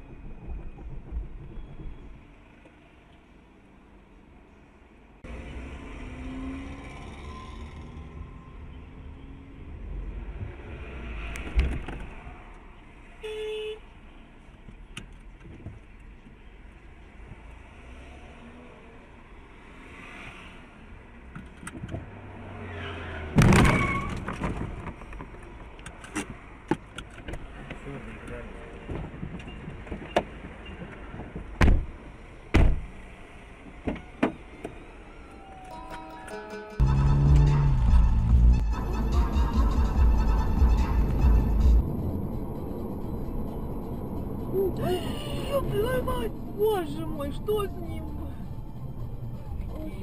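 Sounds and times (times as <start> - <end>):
car running and road noise: 0.0 - 36.1, 36.8 - 50.0.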